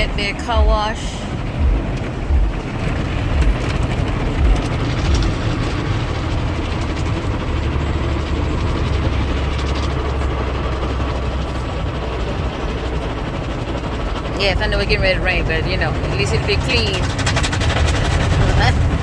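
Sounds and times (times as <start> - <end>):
car wash spray and machinery: 0.0 - 19.0
low rumble: 0.0 - 19.0
low thumps: 0.0 - 19.0.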